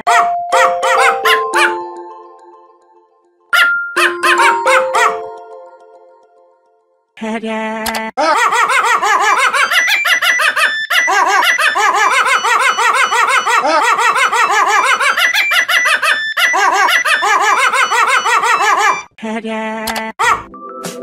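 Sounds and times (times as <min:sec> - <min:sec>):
dog bark ringtone melody: 0:00.0 - 0:06.5, 0:08.5 - 0:19.1.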